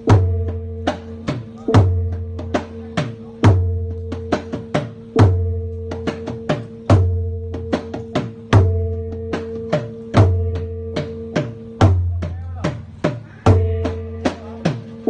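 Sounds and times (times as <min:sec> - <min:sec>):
deep booming drum strokes: 0:00.0 - 0:15.0
sharp lighter drum strikes: 0:00.0 - 0:15.0.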